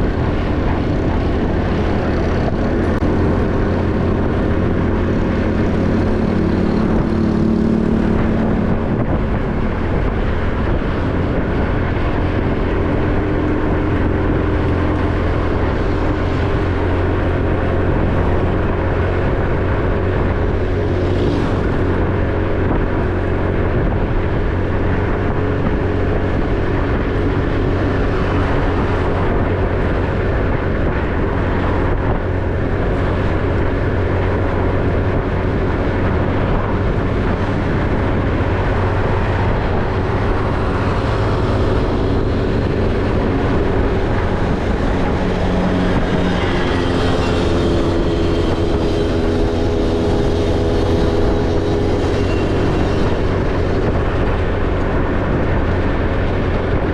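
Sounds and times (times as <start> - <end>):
another engine: 0.0 - 56.9
motorcycle engine running: 0.0 - 56.9
wind and road noise: 0.0 - 56.9.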